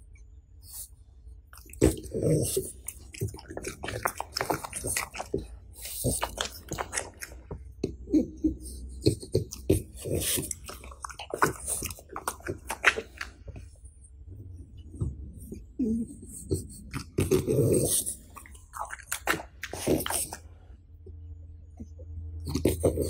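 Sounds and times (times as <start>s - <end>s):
dog chewing and smacking lips: 1.4s - 23.0s.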